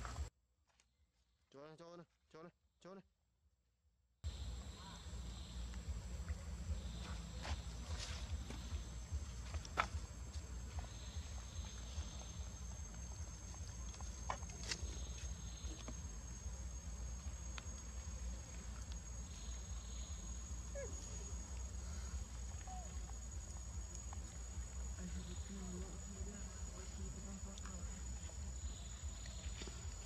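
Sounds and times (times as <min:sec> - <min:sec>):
insects trilling: 0:04.3 - 0:30.0
low rumble: 0:04.3 - 0:30.0.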